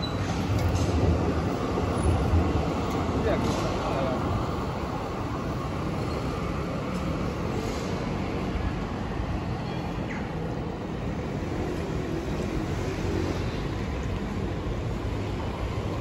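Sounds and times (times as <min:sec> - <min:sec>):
city street rumble: 0:00.0 - 0:16.0.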